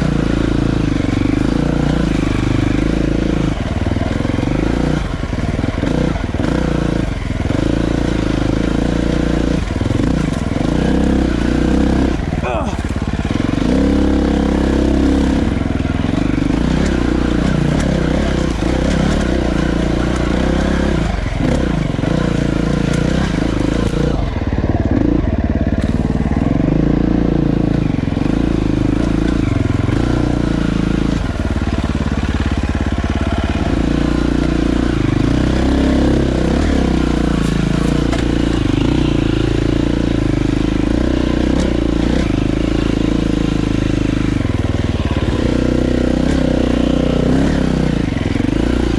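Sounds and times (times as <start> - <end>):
dirt bike engine: 0.0 - 48.9.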